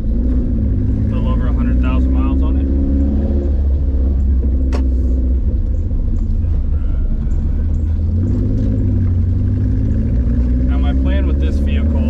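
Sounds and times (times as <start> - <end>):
truck engine low drone: 0.0 - 12.0.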